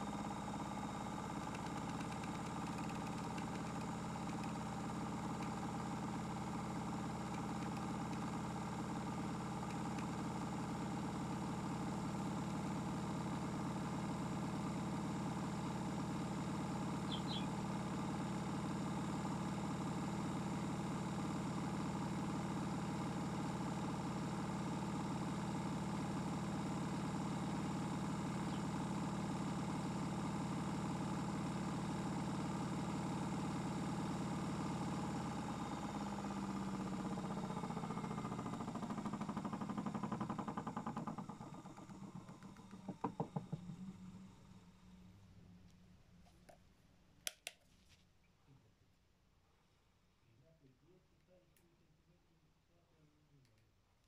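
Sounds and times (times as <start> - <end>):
toy washing machine motor hum: 0.0 - 45.3.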